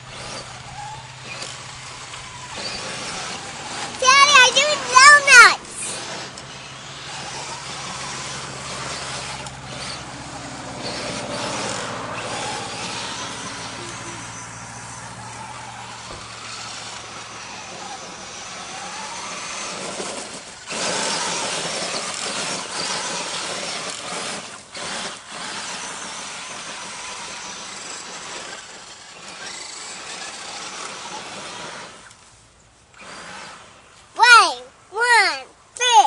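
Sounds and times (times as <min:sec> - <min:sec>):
electric toy truck motor whining: 0:00.0 - 0:36.0.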